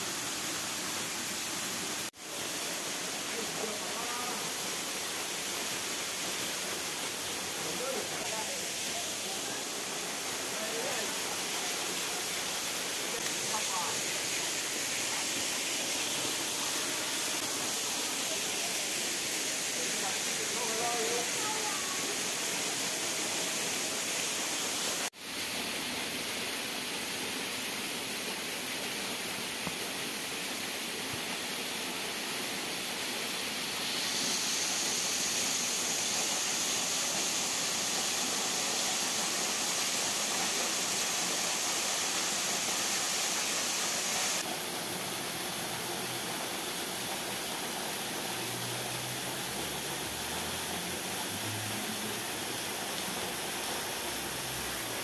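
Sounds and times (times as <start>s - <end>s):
small waterfall rushing: 0.0s - 55.0s.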